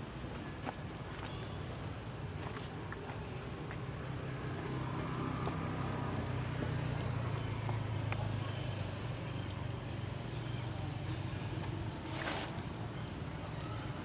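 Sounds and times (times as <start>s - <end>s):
vehicle engine running: 1.2s - 13.5s.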